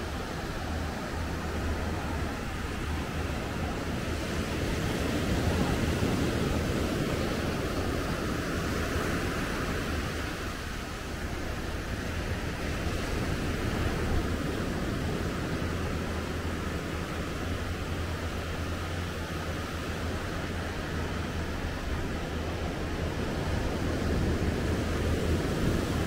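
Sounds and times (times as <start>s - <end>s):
sea waves washing onto beach: 0.0s - 26.0s.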